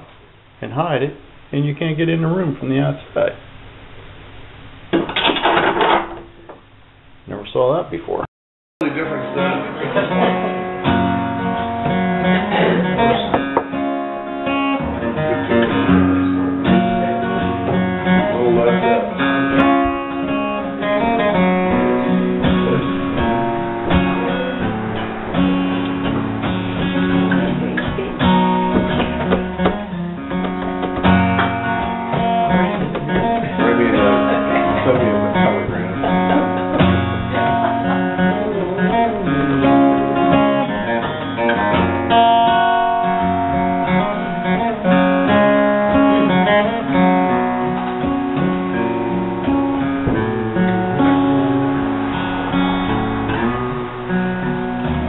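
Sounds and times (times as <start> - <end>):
acoustic guitar playing: 0.0 - 6.8, 8.8 - 55.0.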